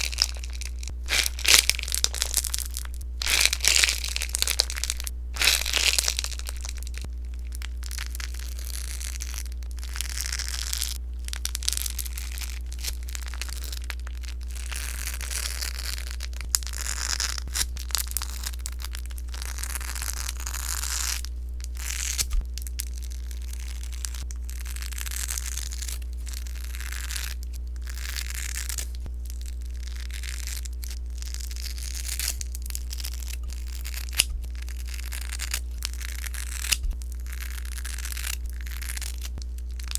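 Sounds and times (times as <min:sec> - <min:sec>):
low hum: 0:00.0 - 0:39.9
slime crackling when squeezed: 0:00.0 - 0:39.9.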